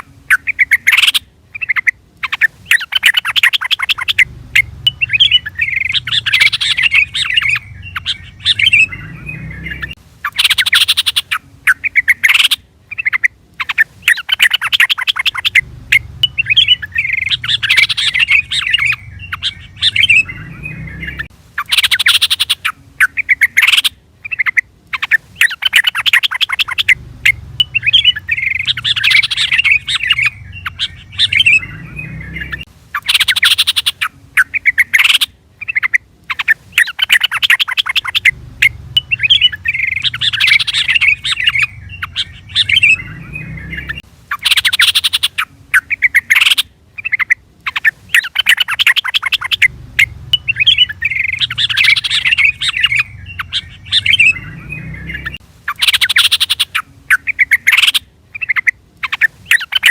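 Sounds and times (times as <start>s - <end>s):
bird chattering chirps: 0.0s - 59.9s.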